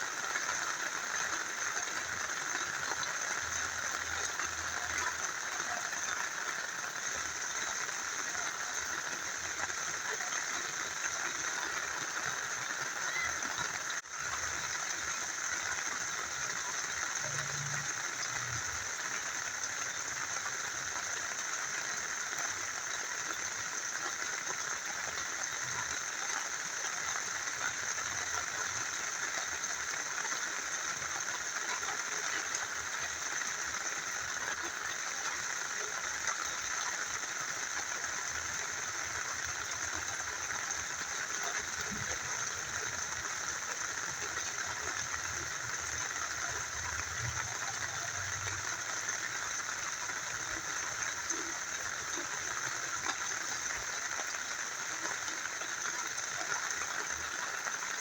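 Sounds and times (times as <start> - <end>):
rain falling: 0.0 - 58.0
river flowing: 0.0 - 58.0.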